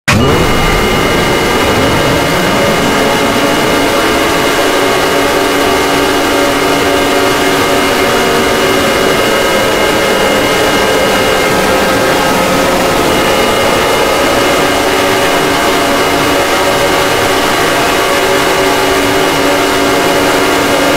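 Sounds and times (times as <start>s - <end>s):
noisy drone: 0.0s - 20.9s
low wavering tones: 0.1s - 19.9s
emergency alert alarm tones: 0.1s - 20.9s.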